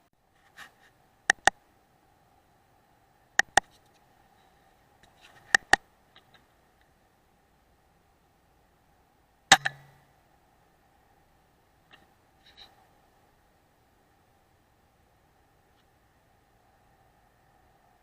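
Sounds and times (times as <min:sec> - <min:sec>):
faint steady whine: 0:00.0 - 0:18.0.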